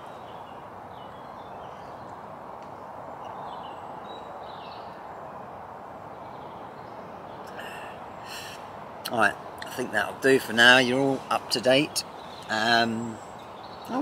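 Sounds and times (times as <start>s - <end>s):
open-air background hiss: 0.0s - 14.0s.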